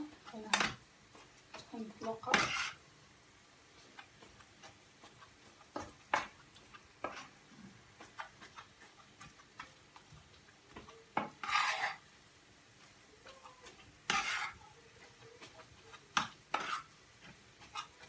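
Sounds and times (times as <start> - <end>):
faint sizzle: 0.0 - 18.0
metal spoon scraping a frying pan: 0.1 - 2.8, 3.8 - 12.1, 13.2 - 18.0.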